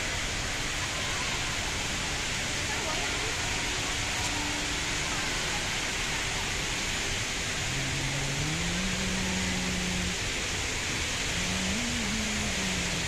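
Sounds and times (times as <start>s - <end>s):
indoor waterfall rushing: 0.0s - 13.0s.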